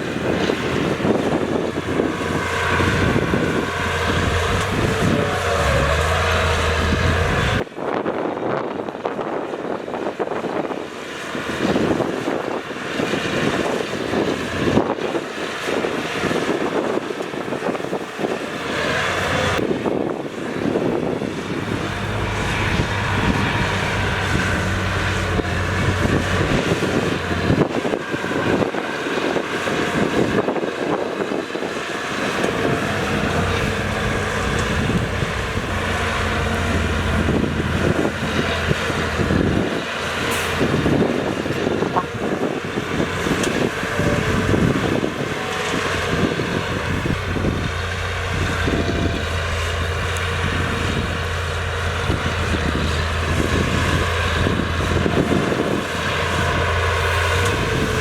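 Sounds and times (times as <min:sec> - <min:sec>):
heavy diesel engines under load: 0:00.0 - 0:58.0.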